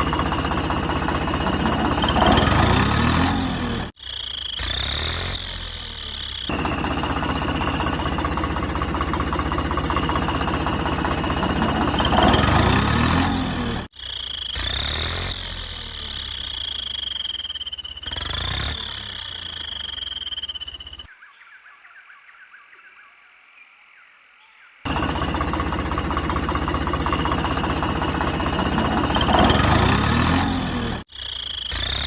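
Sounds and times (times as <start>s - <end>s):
toy tractor chugging and whining: 0.0s - 21.1s, 24.9s - 32.0s.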